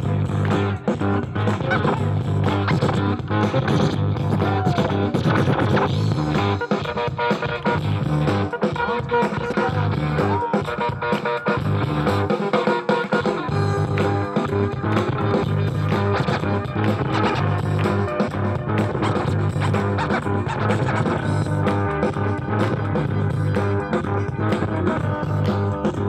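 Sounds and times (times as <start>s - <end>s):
dance music over speakers: 0.0s - 26.0s.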